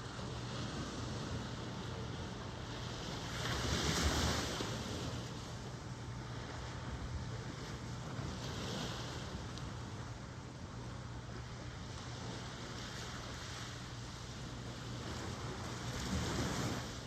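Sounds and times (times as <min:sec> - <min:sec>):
ocean surf washing: 0:00.0 - 0:17.0.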